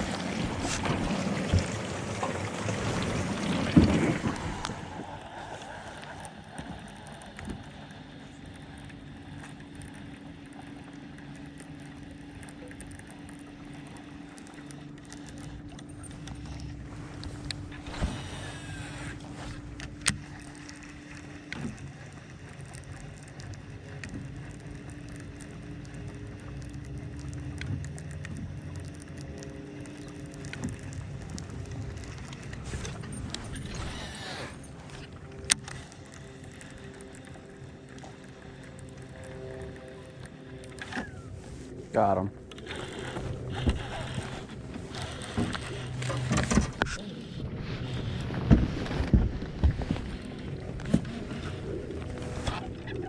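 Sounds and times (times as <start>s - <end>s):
small boat motor humming: 0.0s - 53.0s.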